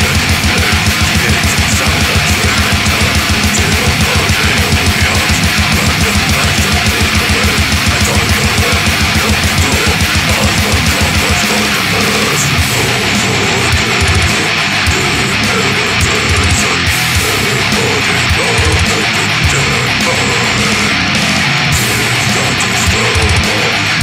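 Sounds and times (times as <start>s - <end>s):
distorted electric guitars: 0.0s - 24.0s
fast double-bass kick drum: 0.0s - 24.0s.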